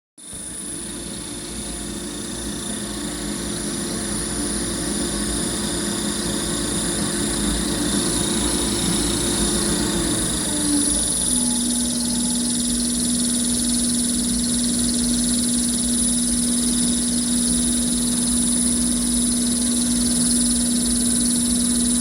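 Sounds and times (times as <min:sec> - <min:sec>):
fan whirring drone: 0:00.2 - 0:22.0
high steady whine: 0:00.2 - 0:22.0.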